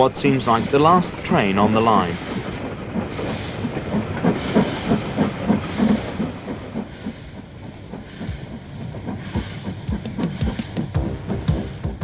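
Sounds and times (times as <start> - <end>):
steam hiss: 0.0 - 12.0
steam locomotive chuffing: 0.0 - 12.0.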